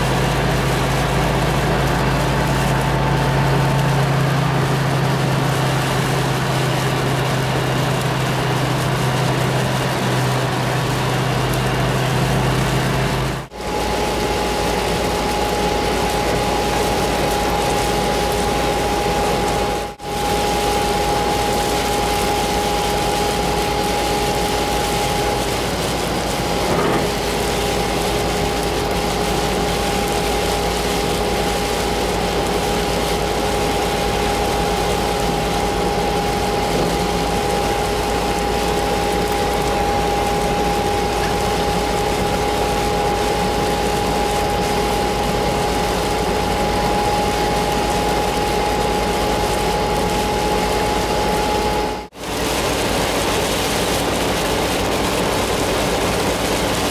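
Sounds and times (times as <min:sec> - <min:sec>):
high whine: 0:00.0 - 0:56.9
road and tyre noise on wet road: 0:00.0 - 0:56.9.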